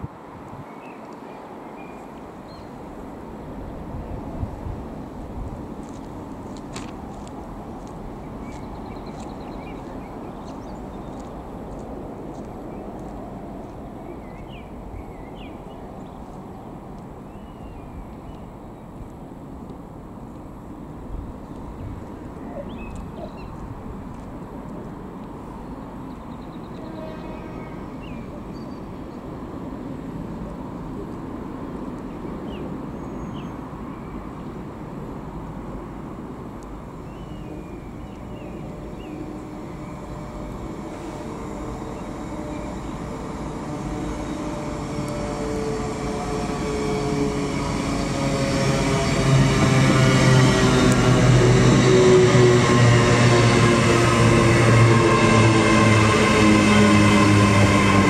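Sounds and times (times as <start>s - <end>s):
train approaching: 0.0s - 58.0s.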